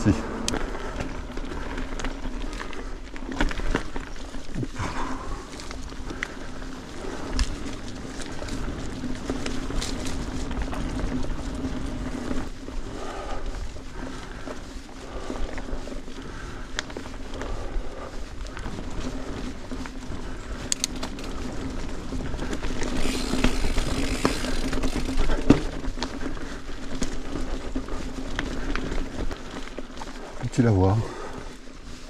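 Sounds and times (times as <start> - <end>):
bike tyres on rocky trail: 0.0 - 32.0
stones and bike clicking: 0.0 - 32.0.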